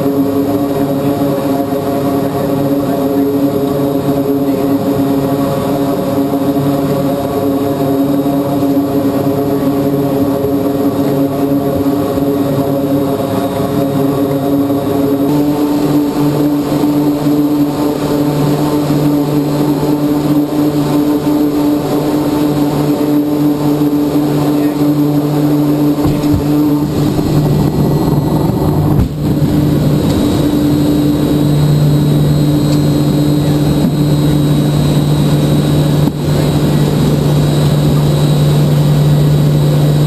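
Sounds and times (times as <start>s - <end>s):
turboprop engines and propellers running: 0.0s - 40.0s.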